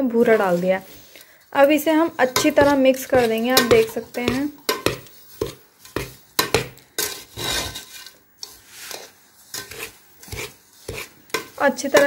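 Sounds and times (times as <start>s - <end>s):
metal spoon scraping a bowl: 0.2s - 12.0s.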